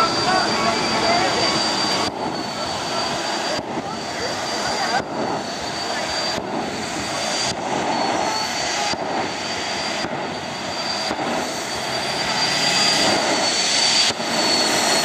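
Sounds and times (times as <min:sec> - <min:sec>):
jet turbine engine roaring: 0:00.0 - 0:15.0.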